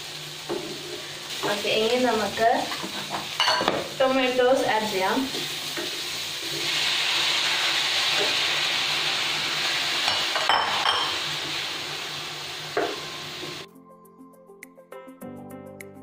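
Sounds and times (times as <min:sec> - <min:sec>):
tomatoes sizzling in a pan: 0:00.0 - 0:13.7.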